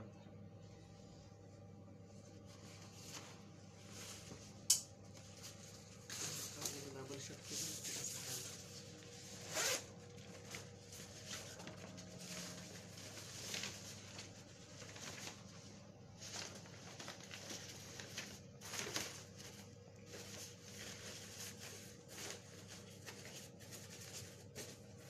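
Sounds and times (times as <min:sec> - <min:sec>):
synthetic fabric rustling: 0:02.0 - 0:25.0.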